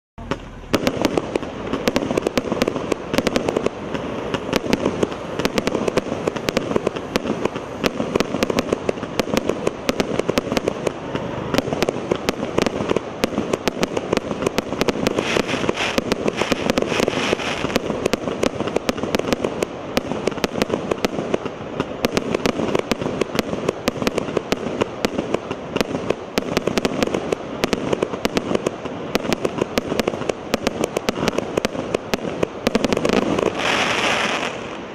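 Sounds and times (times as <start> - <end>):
firework launch pops and crackling: 0.2 - 34.9.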